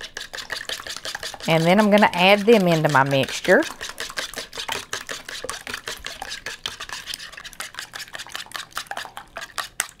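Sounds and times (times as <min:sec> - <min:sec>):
whisk beating eggs in bowl: 0:00.0 - 0:10.0.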